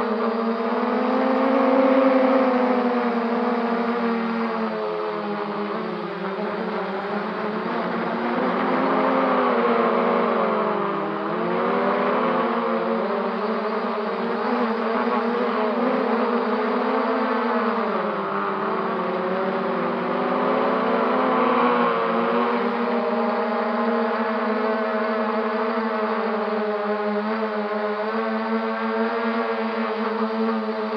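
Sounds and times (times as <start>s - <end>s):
quadcopter motors whining: 0.0s - 27.2s.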